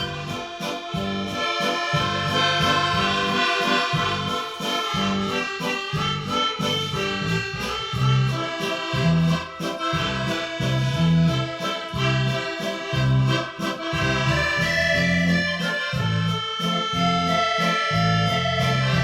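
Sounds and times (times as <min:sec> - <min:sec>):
accordion music: 0:00.0 - 0:19.0
pulsing bass line: 0:00.0 - 0:19.0.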